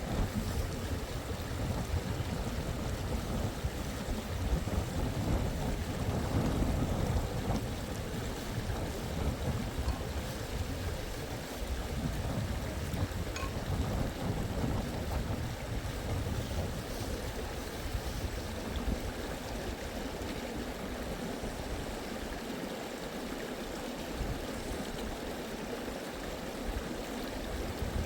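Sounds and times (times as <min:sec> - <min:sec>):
wind buffeting microphone: 0:00.0 - 0:22.0, 0:27.4 - 0:28.0.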